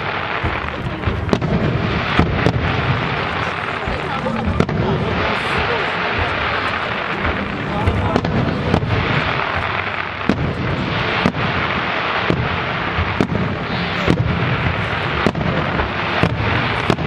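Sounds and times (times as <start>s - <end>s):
fireworks rumbling: 0.0s - 17.0s
fireworks sharp bangs: 0.0s - 17.0s.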